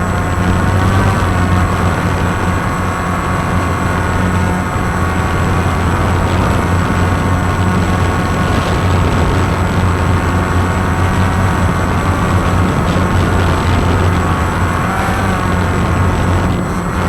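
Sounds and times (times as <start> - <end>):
quadcopter motors humming: 0.0 - 17.0.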